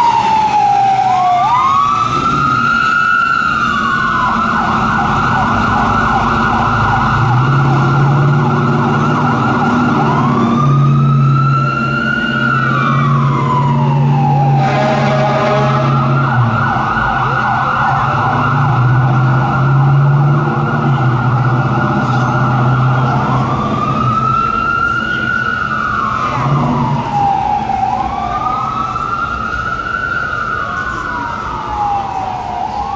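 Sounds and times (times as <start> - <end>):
fire engine siren: 0.0 - 32.9
second siren wailing: 0.0 - 32.9.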